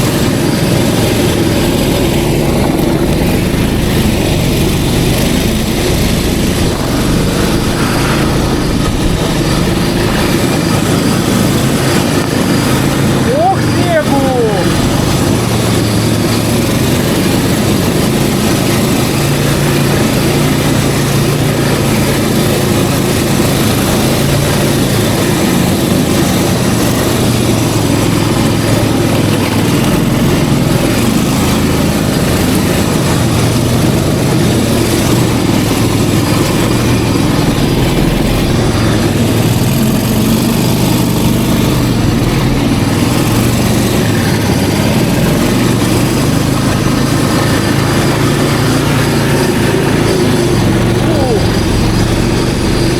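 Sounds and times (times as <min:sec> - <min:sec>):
snowmobile engine running: 0:00.0 - 0:52.9.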